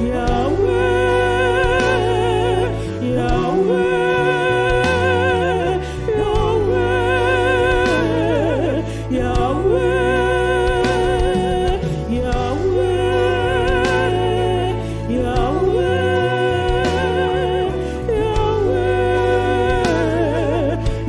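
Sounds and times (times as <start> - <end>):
sustained low bass notes: 0.0 - 21.0
vibrato melody line: 0.0 - 21.0.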